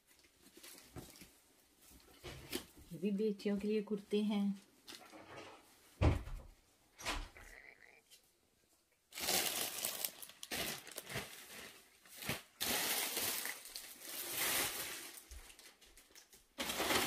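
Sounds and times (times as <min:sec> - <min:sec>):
clothes rustling and crinkling: 0:00.0 - 0:06.0, 0:08.1 - 0:17.0.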